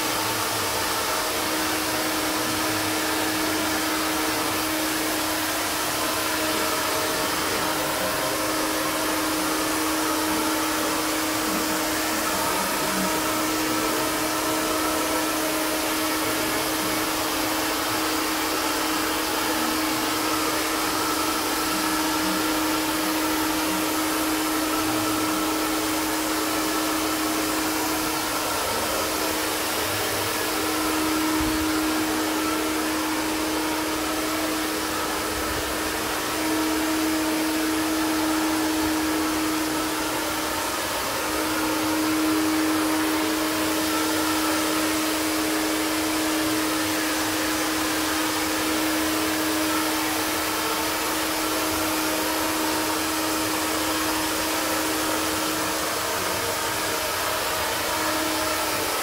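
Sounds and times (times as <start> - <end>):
blower air rushing with hum: 0.0 - 59.0.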